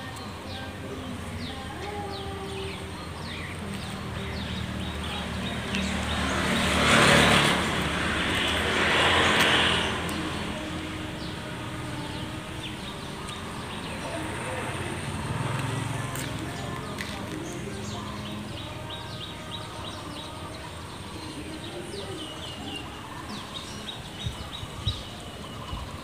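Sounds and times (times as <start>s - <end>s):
motor vehicle passing: 2.1s - 25.4s.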